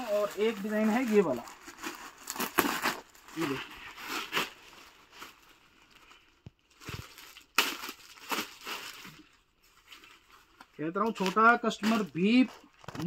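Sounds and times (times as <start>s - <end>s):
fabric and wrapping rustling: 0.0s - 13.0s.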